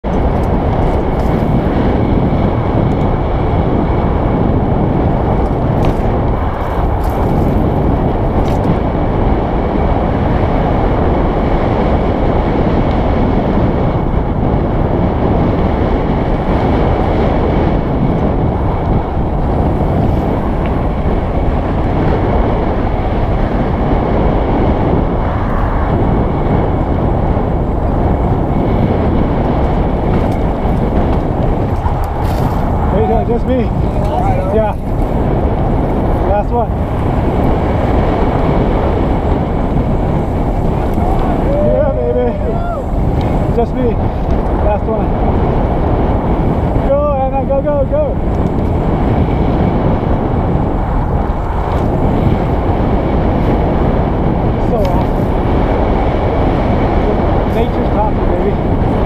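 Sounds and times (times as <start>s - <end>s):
bike tyres rolling on dirt: 0.0s - 59.0s
wind rushing over microphone: 0.0s - 59.0s.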